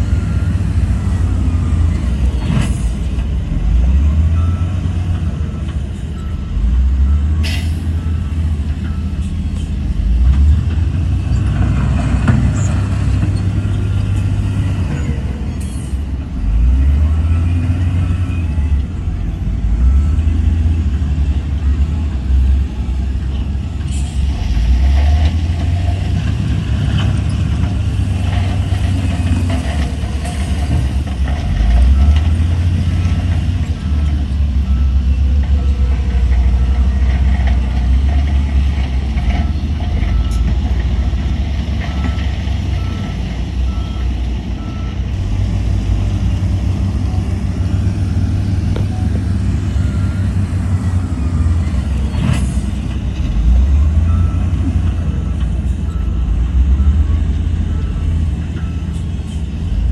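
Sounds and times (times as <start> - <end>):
reversing alarm beeping: 0.0 - 3.1, 3.9 - 9.9, 16.6 - 59.8
diesel machinery engine rumble: 0.0 - 59.9.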